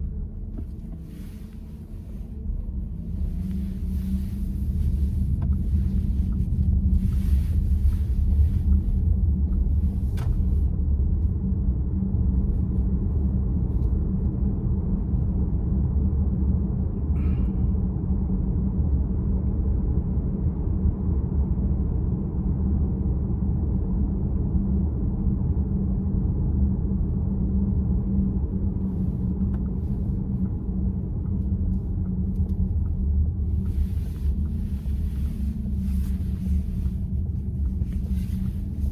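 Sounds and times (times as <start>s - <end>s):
road and tyre rumble in car: 0.0s - 38.9s.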